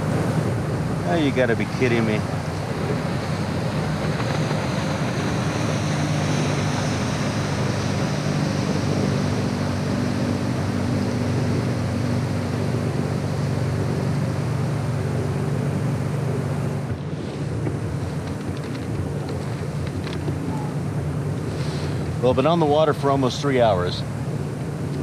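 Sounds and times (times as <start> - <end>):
powerboat engine humming: 0.0 - 25.0
wind and water hiss: 0.0 - 25.0.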